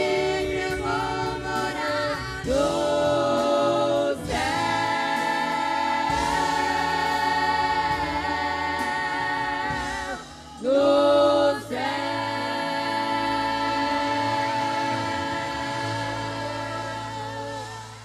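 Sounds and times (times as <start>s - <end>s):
women's choir singing gospel: 0.0s - 18.0s.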